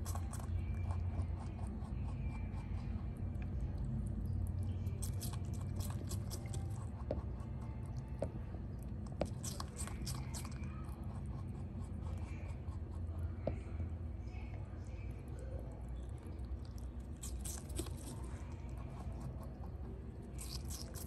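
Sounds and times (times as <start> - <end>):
rabbit chewing fruit: 0.0 - 21.0.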